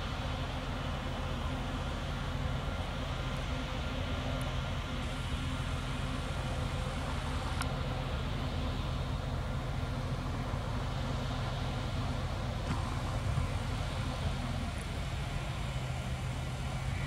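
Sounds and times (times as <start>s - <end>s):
diesel train engine humming: 0.0s - 17.0s.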